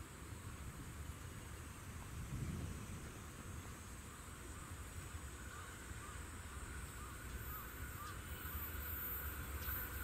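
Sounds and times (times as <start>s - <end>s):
freight train rumble: 0.0s - 10.0s
faint insect buzz: 0.3s - 10.0s.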